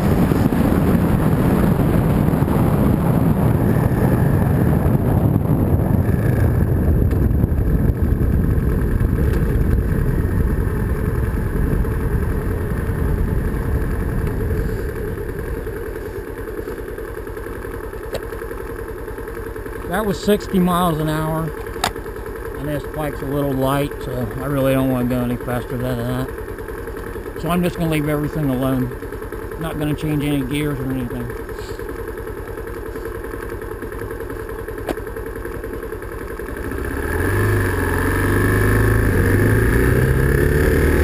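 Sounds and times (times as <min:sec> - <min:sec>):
motorcycle engine running hard: 0:00.0 - 0:41.0
road and wind noise: 0:00.0 - 0:41.0.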